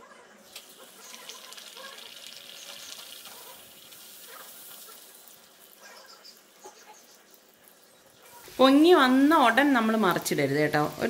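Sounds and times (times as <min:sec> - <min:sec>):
dough sizzling in hot oil: 0:00.4 - 0:11.0.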